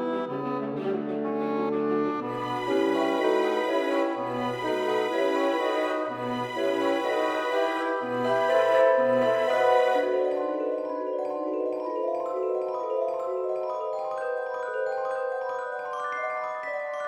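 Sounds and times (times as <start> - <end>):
bell-like mallet melody: 2.5 - 17.0.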